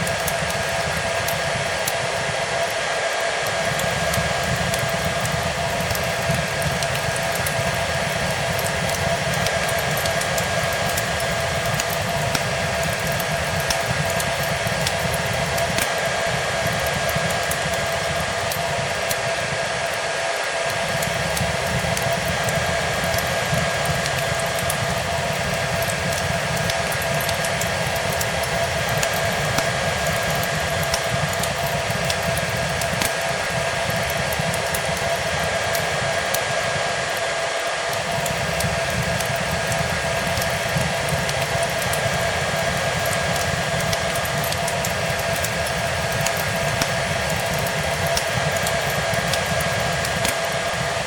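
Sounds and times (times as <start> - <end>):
fireplace crackling: 0.0 - 20.0, 20.7 - 51.0
hair dryer running: 0.0 - 51.0.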